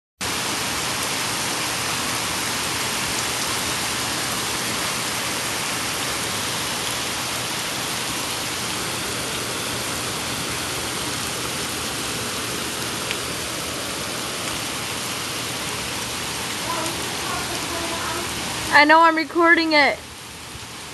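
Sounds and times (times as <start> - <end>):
heavy rain hissing: 0.2 - 20.9.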